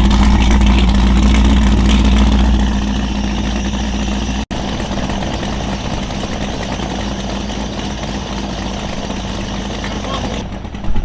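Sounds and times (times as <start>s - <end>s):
boat engines idling: 0.0s - 11.0s.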